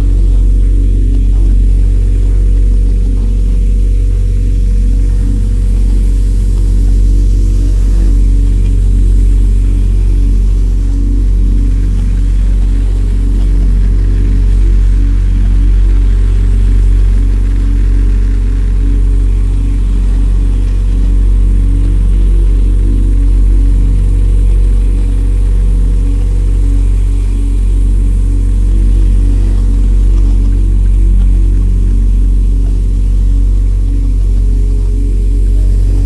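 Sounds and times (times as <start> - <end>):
deep bass drone music: 0.0 - 36.0.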